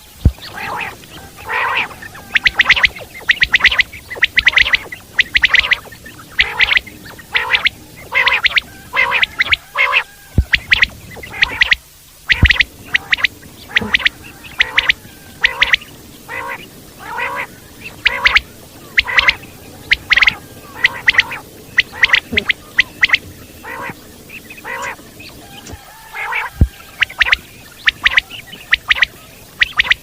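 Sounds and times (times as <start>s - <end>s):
quail calling: 0.0s - 30.0s.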